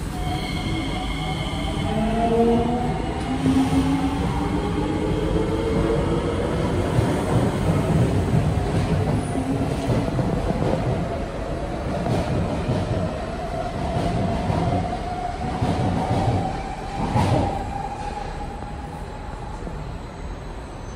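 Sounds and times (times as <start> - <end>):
metro train rumbling: 0.0 - 20.9
train whine: 0.0 - 20.9.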